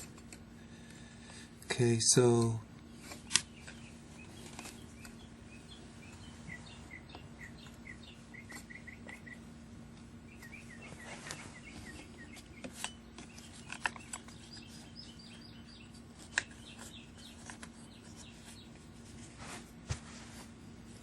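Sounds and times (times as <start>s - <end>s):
birds chirping: 0.0s - 19.4s
steady low hum: 0.0s - 21.0s.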